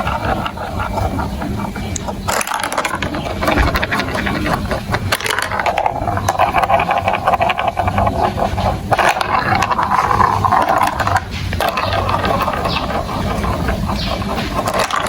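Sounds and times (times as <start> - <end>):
marbles rolling on plastic tracks: 0.0 - 15.0.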